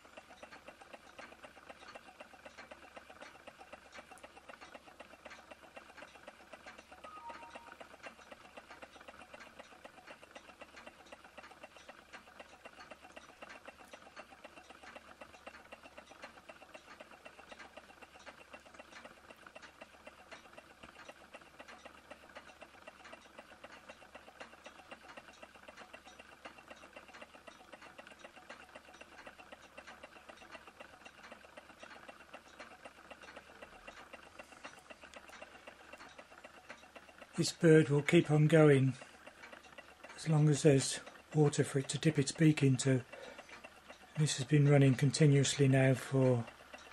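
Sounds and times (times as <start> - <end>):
small engine ticking and clattering: 0.0 - 46.9.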